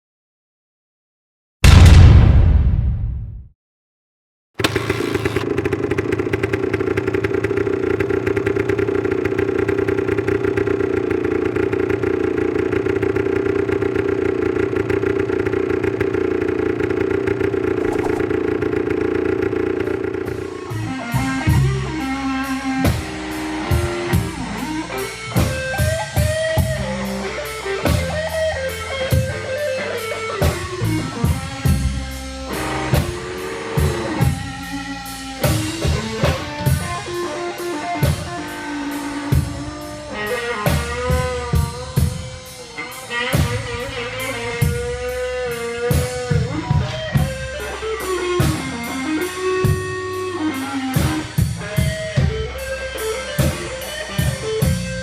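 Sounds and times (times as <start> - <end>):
motorcycle engine running: 4.6 - 24.8, 30.7 - 54.9.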